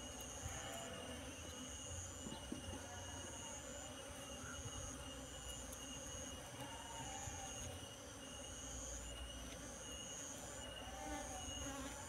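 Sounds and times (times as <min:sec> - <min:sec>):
high-pitched insect trills: 0:00.0 - 0:12.0.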